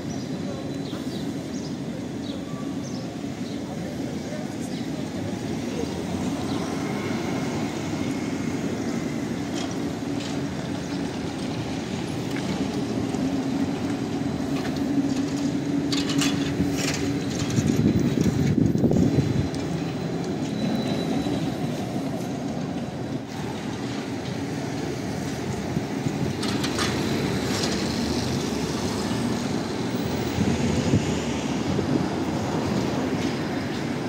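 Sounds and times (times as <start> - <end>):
city street traffic drone: 0.0 - 34.0.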